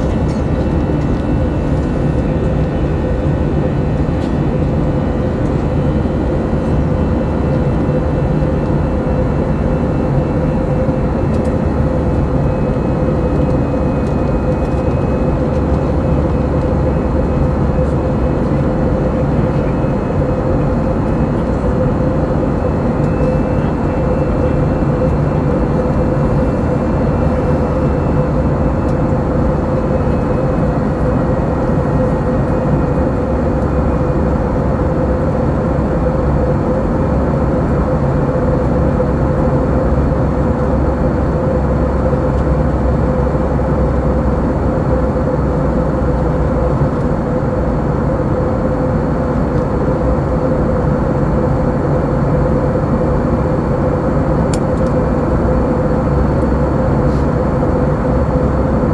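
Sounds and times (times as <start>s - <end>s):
airplane cabin engine noise: 0.0s - 58.9s
constant droning tone: 0.0s - 58.9s.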